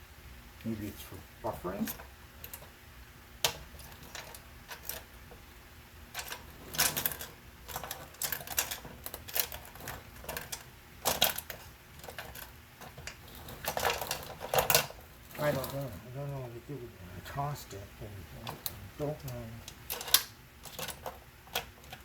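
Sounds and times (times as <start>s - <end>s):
small hard parts clicking and rattling: 1.8s - 2.8s, 3.4s - 16.4s, 18.4s - 22.0s.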